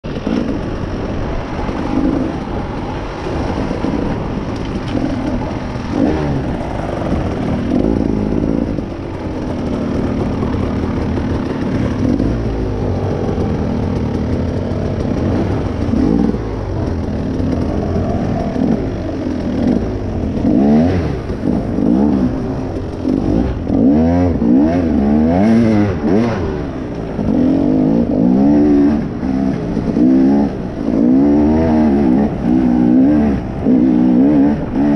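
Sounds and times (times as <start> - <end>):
off-road vehicle engine revving: 4.8 - 34.9.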